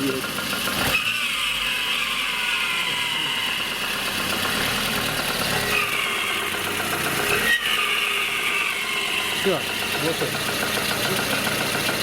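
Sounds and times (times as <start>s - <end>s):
car engine idling: 0.0s - 12.0s
high-pitched belt roller squeal: 0.7s - 12.0s.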